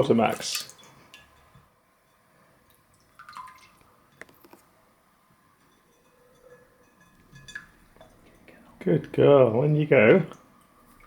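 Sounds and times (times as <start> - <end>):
faint water drips and splashes: 0.0 - 9.2.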